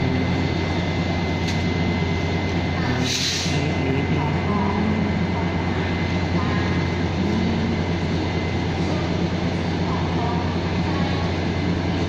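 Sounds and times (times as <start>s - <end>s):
diesel train engine idling: 0.0s - 12.0s.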